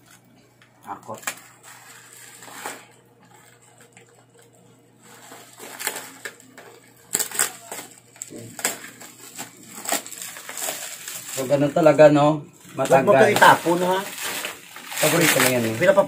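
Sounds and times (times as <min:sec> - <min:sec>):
scissors cutting bubble wrap: 0:00.9 - 0:12.0, 0:12.8 - 0:16.0
bubble wrap snapping and crackling: 0:00.9 - 0:12.1, 0:12.7 - 0:16.0.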